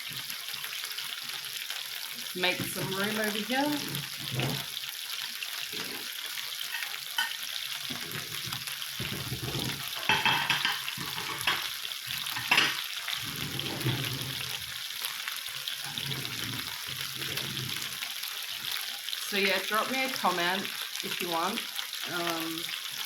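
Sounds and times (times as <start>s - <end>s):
kebabs sizzling on a grill: 0.0s - 23.0s.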